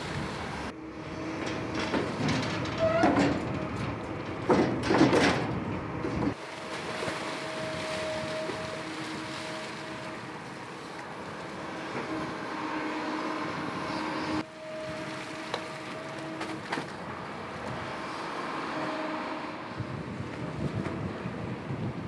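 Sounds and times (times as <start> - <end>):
excavator running: 0.0 - 22.0.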